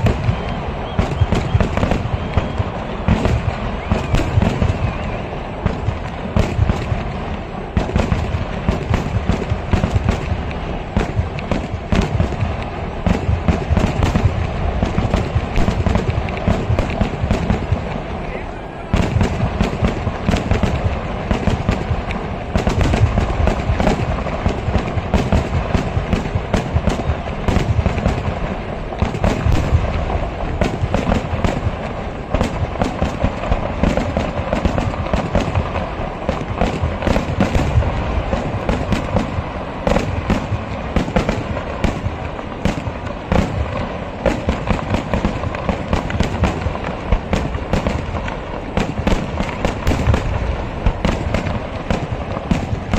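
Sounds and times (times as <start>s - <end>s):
firecracker barrage: 0.0s - 52.9s.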